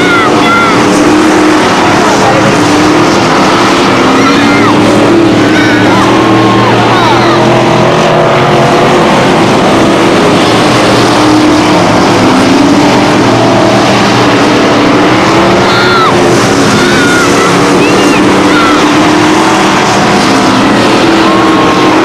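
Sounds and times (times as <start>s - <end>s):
stock car engines racing: 0.0s - 22.0s.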